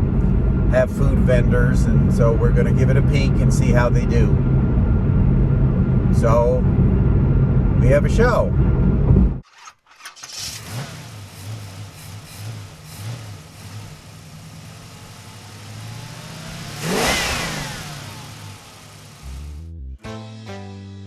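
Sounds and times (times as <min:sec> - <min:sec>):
car engines rumbling: 0:00.0 - 0:09.4, 0:10.4 - 0:19.7.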